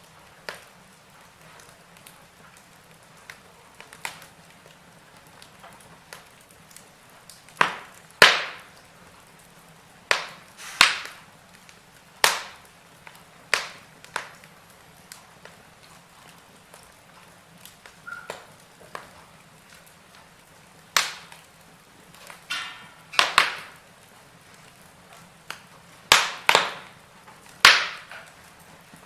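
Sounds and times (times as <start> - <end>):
faint steady hiss: 0.0 - 29.0
logs crackling and popping: 0.0 - 29.0.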